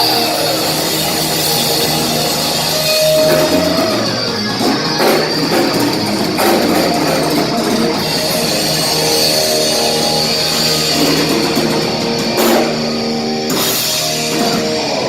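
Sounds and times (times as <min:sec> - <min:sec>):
cymbal crashes: 0:00.0 - 0:15.0
drum kit: 0:00.0 - 0:15.0
electric guitar chords: 0:00.0 - 0:15.0.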